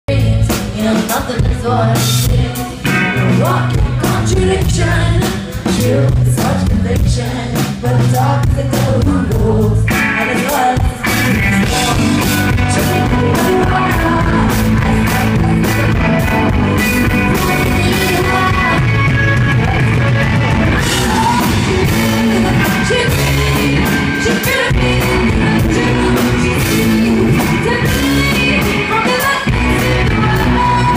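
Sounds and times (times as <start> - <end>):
drum kit: 0.1 - 30.9
electric guitars: 0.1 - 30.9
live rock band playing: 0.1 - 30.9
woman singing: 0.1 - 30.9.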